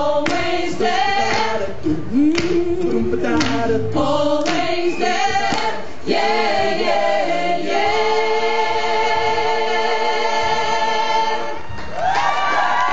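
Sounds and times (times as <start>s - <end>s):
a cappella choir singing: 0.0s - 11.7s.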